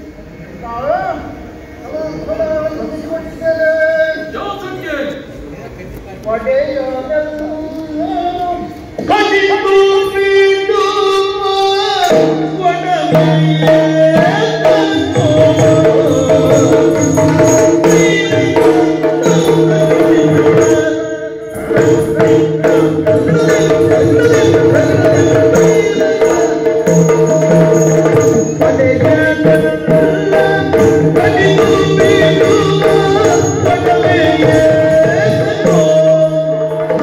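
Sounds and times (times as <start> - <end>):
man singing: 1.8 - 5.2, 6.3 - 37.0.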